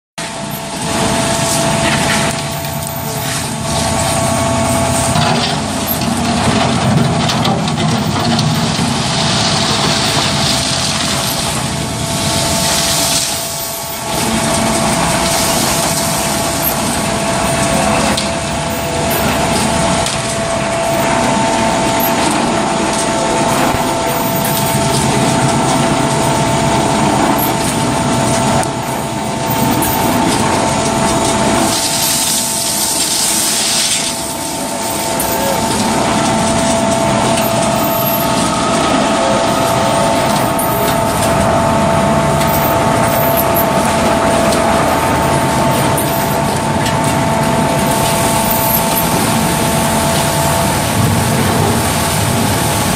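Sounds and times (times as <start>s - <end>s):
concrete pump humming and whining: 0.2s - 52.9s.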